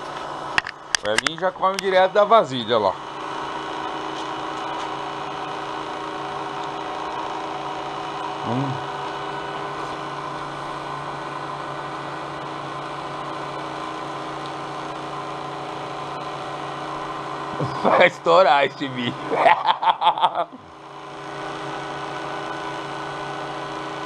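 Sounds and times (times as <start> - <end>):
cotton candy machine humming: 0.0 - 24.0.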